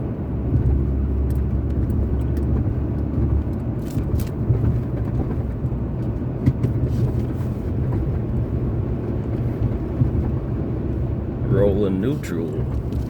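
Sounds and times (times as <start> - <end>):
car tyre and engine rumble: 0.0 - 13.0.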